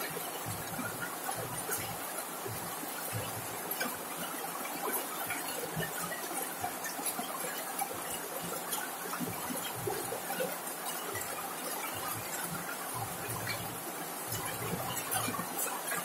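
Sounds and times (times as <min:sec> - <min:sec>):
rain on a metal roof: 0:00.0 - 0:16.0.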